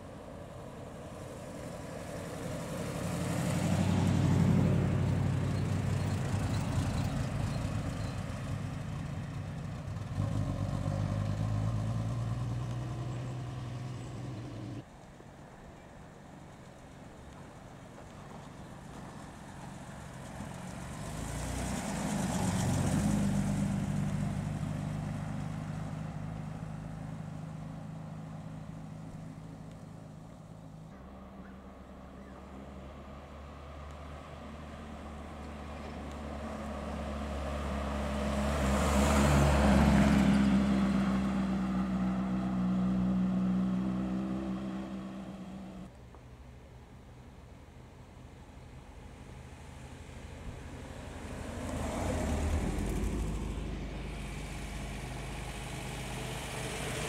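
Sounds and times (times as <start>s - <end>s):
four-cylinder engine driving past: 0.0s - 15.1s, 16.7s - 45.9s, 48.0s - 57.0s
car driving past: 1.1s - 14.9s, 18.9s - 45.9s, 49.2s - 57.0s.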